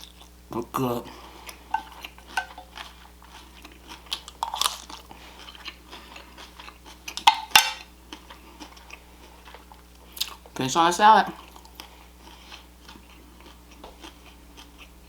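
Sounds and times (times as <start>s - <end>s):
chewing crunchy food: 0.0s - 0.4s, 1.1s - 10.6s, 11.2s - 15.0s.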